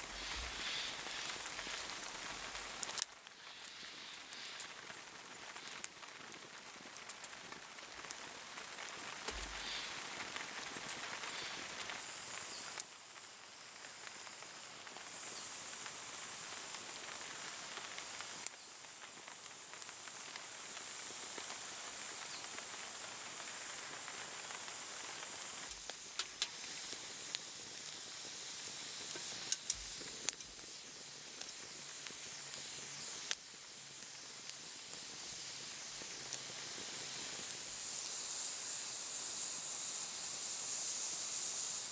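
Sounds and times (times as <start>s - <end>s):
campfire hissing and crackling: 0.0s - 41.9s.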